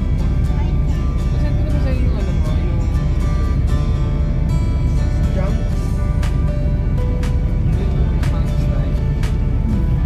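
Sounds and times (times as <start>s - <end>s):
background music with held tones: 0.0s - 10.0s
constant low rumble: 0.0s - 10.0s.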